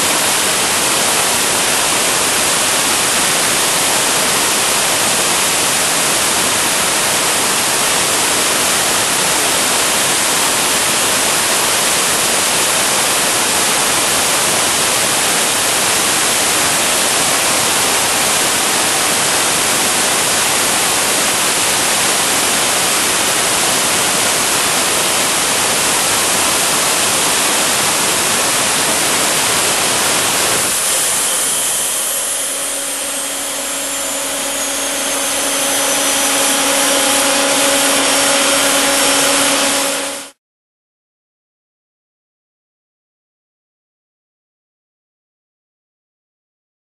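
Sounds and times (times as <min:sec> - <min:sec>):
gas turbine engine roaring: 0:00.0 - 0:40.4
turbine whine gliding down: 0:00.0 - 0:40.4.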